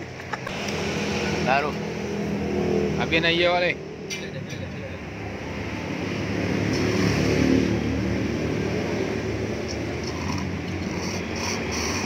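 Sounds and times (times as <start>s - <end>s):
traffic drone: 0.0s - 12.0s
vehicle engine passing: 0.4s - 12.0s.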